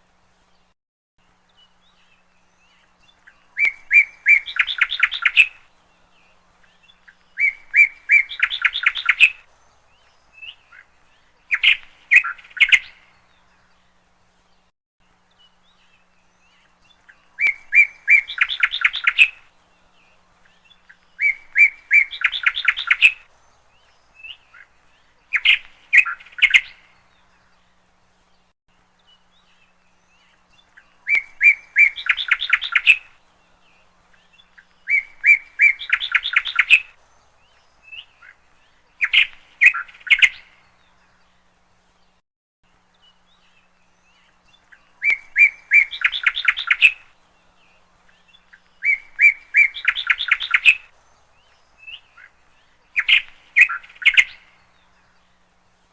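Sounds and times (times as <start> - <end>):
songbird chirping and trilling: 1.3 - 55.9.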